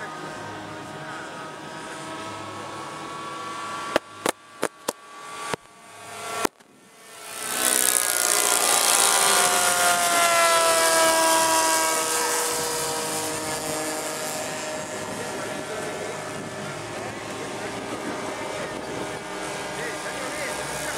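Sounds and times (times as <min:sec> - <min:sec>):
model plane engines droning: 0:00.0 - 0:20.9.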